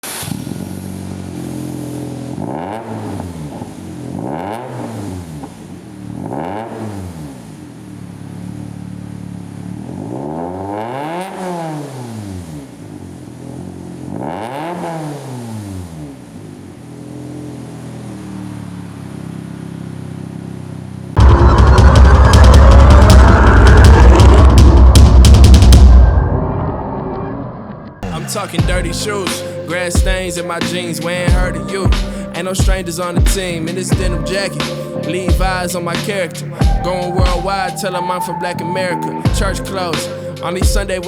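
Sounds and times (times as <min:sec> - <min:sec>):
car engine idling and revving: 0:00.0 - 0:26.1, 0:28.0 - 0:41.0.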